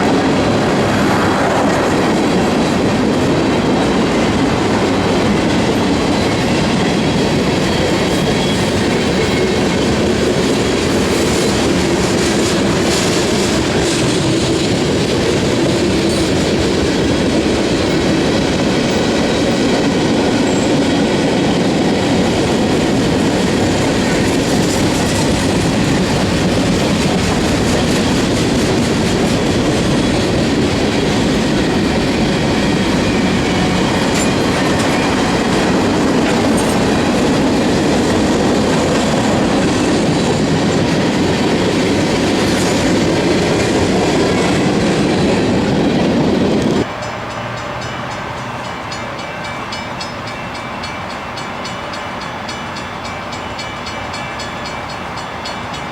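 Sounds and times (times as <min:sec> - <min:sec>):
steel wheels on rails: 0:00.0 - 0:55.9.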